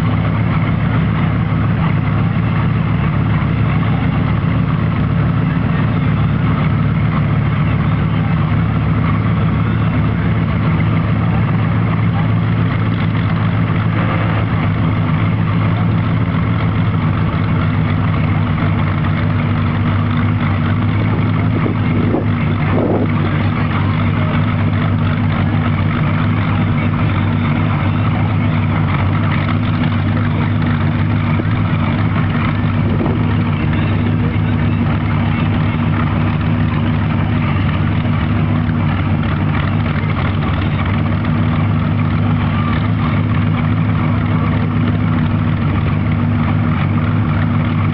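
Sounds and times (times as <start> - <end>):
loud tractor engine running: 0.0 - 47.9.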